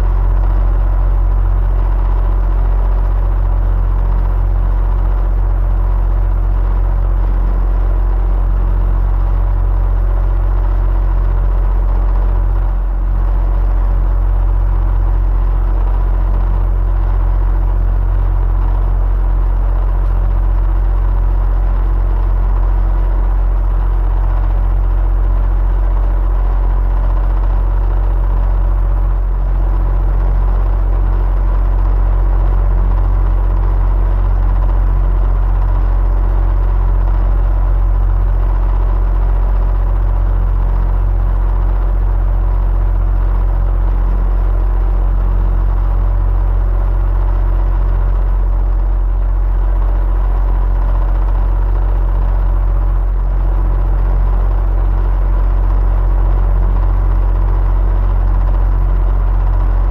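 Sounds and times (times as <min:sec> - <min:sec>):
electric fan humming: 0:00.0 - 0:45.1, 0:45.7 - 0:59.9.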